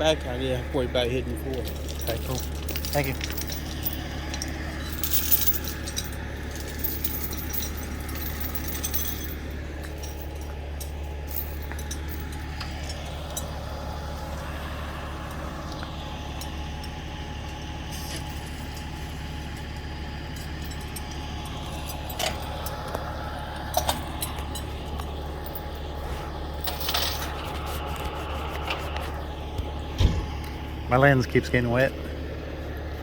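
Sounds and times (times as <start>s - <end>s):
heavy vehicle engine idling: 0.0s - 33.0s.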